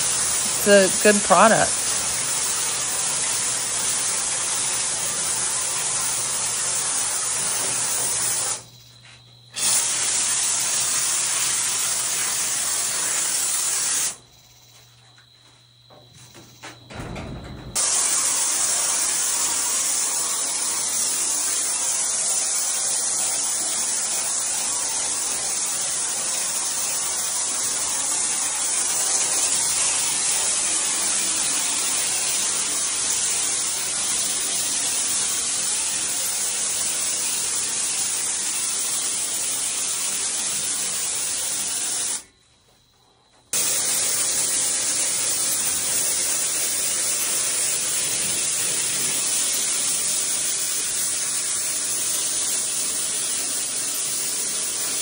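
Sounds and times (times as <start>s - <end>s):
spray foam hissing: 0.0s - 8.7s, 9.5s - 14.2s, 17.8s - 42.3s, 43.5s - 55.0s.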